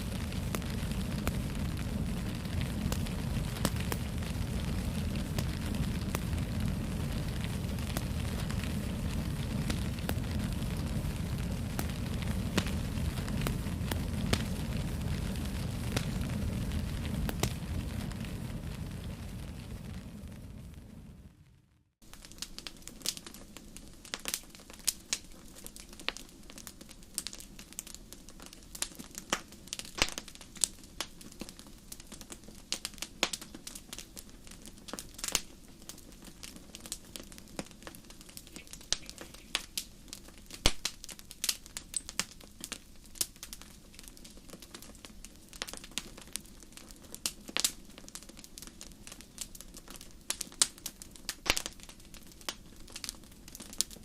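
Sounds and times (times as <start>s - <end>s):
fire crackling and popping: 0.0s - 54.0s
fire low hiss: 0.0s - 54.0s.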